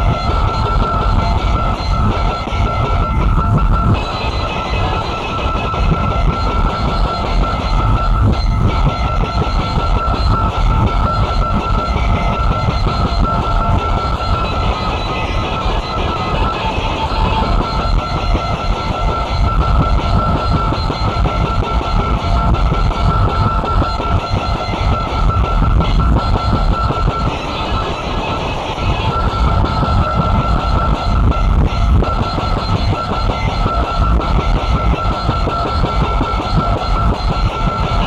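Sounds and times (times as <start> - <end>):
distorted rock song: 0.0 - 38.0
steady high whine: 0.0 - 38.0.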